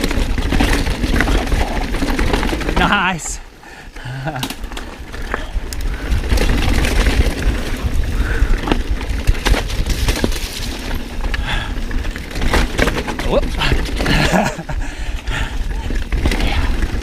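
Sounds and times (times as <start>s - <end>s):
bike knocking and rattling: 0.0s - 17.0s
bike tyres rumbling on dirt: 0.0s - 17.0s.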